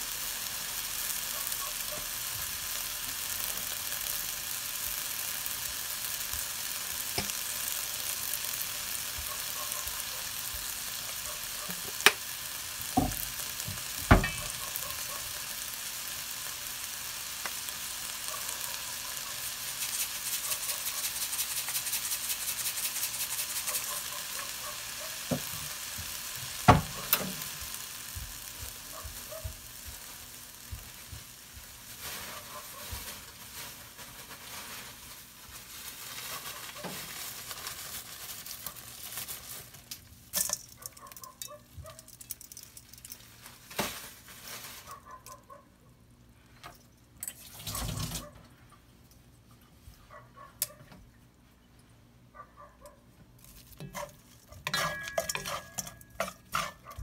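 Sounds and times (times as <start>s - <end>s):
bean sprouts sizzling in a wok: 0.0s - 45.2s, 53.4s - 57.0s.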